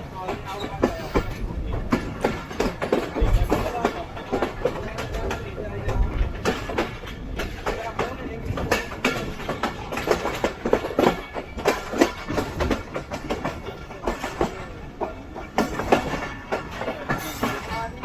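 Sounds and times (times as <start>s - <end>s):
train running rumble: 0.0s - 18.0s
train wheels clattering over rail joints: 0.0s - 18.0s.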